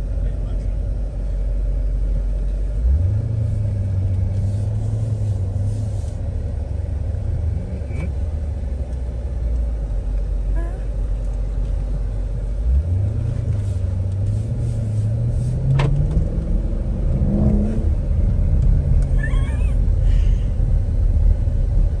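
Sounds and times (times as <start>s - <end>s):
car engine accelerating: 0.0s - 22.0s
low rumble: 0.0s - 22.0s.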